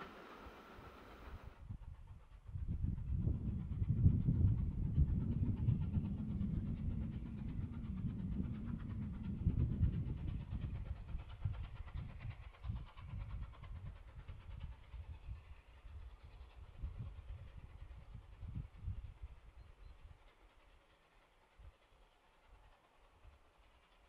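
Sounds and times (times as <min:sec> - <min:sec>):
steam train rumbling by: 0:00.0 - 0:24.0.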